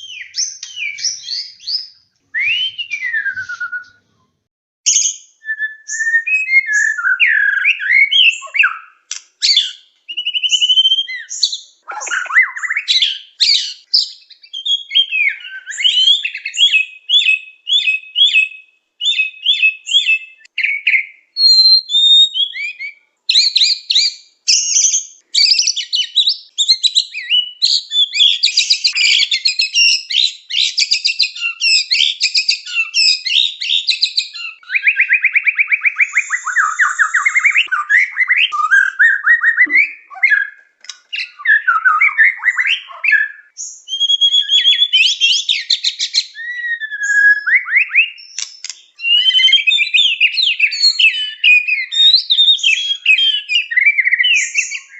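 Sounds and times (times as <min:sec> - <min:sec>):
bird singing whistles and trills: 0:00.0 - 0:04.1, 0:04.9 - 0:54.9.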